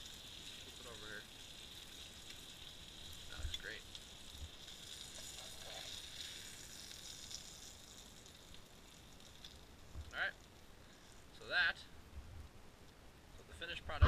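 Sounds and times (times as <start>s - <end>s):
oil sizzling in a frying pan: 0.0s - 11.7s.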